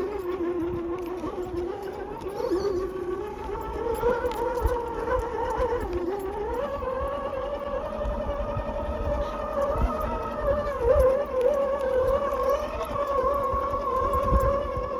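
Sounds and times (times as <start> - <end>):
electric motor whining: 0.0 - 14.9.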